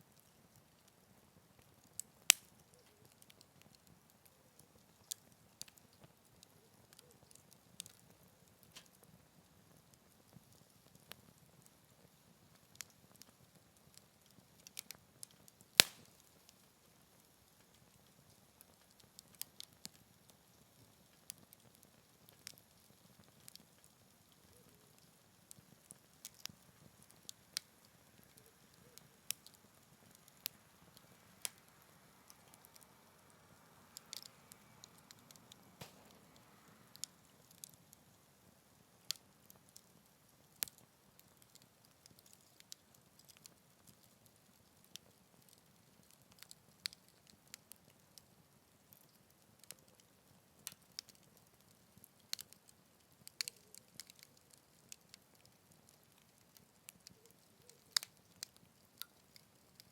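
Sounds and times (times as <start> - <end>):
wood fire crackling: 0.0 - 59.9
fire pops and snaps: 0.1 - 33.0, 33.8 - 59.9.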